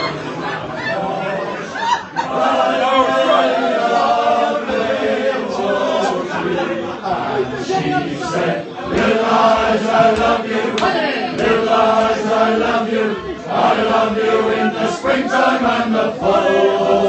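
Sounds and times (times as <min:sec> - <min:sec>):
crowd singing together: 0:00.0 - 0:17.0.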